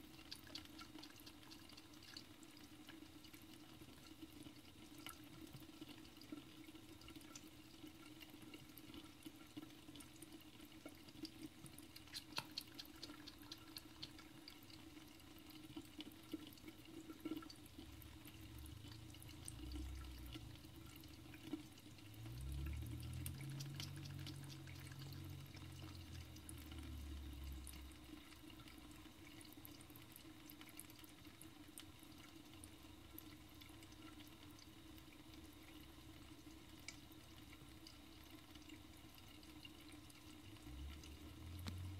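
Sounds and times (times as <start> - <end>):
cat lapping water: 0.0 - 41.9
water trickling into sink: 0.0 - 41.9.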